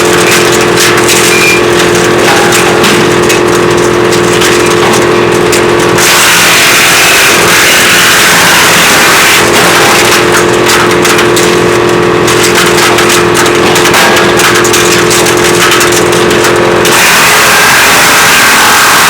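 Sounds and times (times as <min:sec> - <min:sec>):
woodchipper running: 0:00.0 - 0:19.0.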